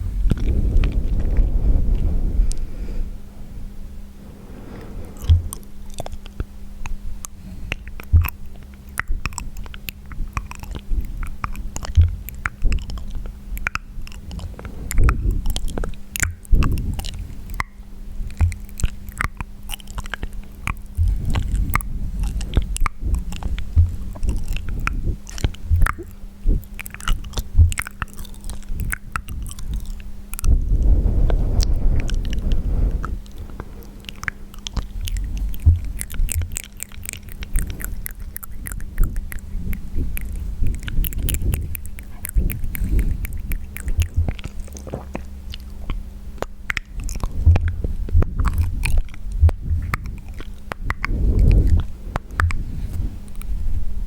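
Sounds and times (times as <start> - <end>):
wet mouth clicks and smacks: 5.2 - 53.5.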